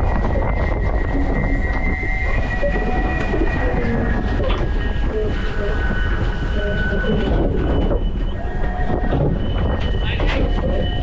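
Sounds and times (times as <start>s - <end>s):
high whine: 0.0s - 11.0s.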